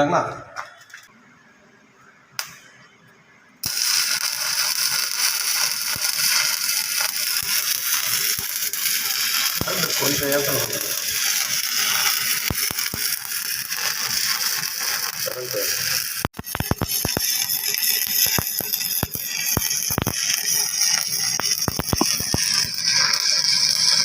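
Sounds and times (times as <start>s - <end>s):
sharp welding pops: 2.4s - 2.7s, 3.6s - 24.0s
welding arc crackling: 3.6s - 24.0s.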